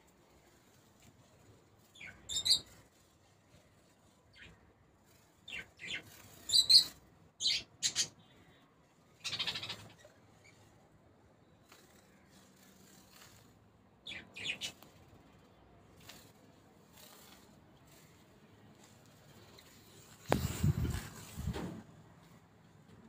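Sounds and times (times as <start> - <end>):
small bird chirping: 1.3 - 10.8, 11.4 - 21.0.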